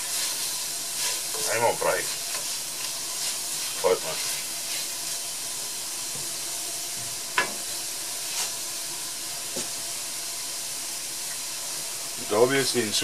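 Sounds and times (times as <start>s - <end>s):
vegetables sizzling in a pot: 0.0s - 13.0s.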